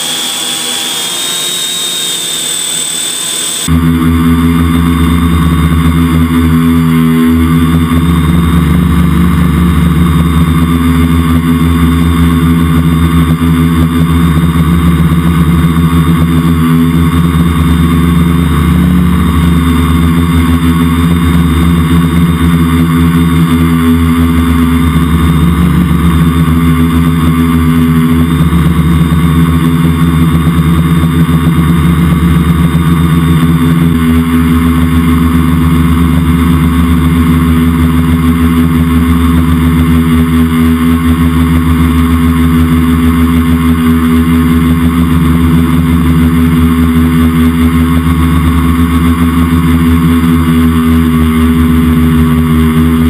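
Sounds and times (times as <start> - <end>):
drone propellers whirring: 0.0 - 53.0.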